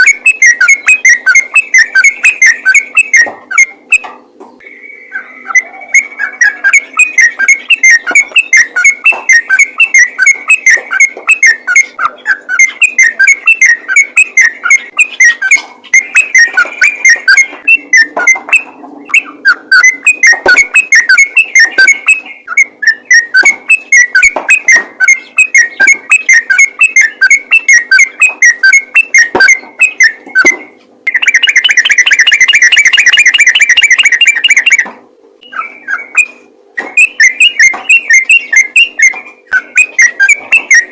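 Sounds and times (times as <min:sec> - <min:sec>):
bulbul singing whistled chirps: 0:00.0 - 0:04.0, 0:04.6 - 0:40.9.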